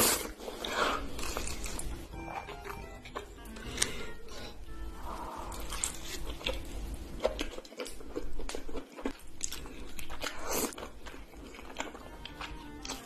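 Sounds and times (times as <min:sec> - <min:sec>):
person chewing pizza: 0:00.0 - 0:13.0.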